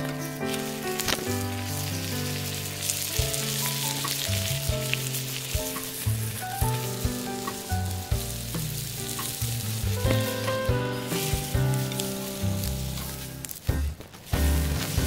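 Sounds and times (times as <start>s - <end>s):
background music: 0.0s - 15.0s
meat sizzling in a pan: 0.0s - 15.0s.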